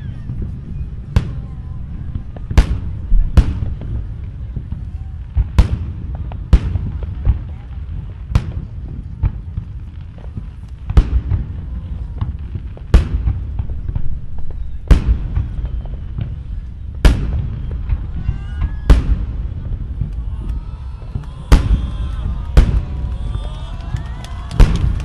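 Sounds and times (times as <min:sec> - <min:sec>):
firework booms: 0:00.0 - 0:25.0
firework rumble and crackle: 0:00.0 - 0:25.0.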